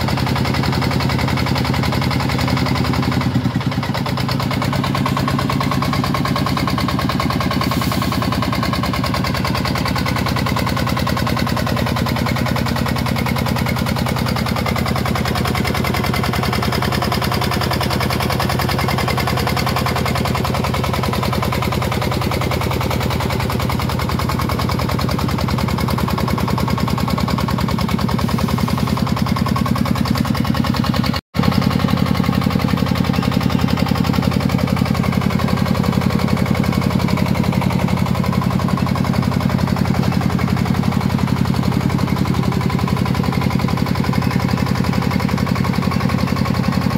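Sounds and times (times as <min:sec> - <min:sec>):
diesel engine thumping: 0:00.0 - 0:46.9.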